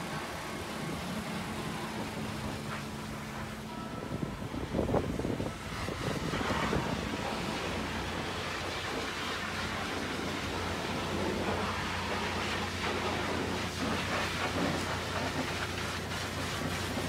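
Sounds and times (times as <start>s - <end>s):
low hum: 0.0s - 16.4s.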